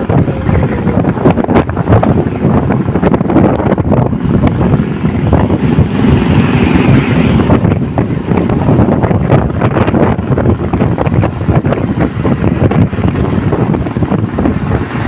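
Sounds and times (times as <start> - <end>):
motorbike engine: 0.0 - 15.0
road noise: 0.0 - 15.0
wind buffeting microphone: 0.0 - 15.0.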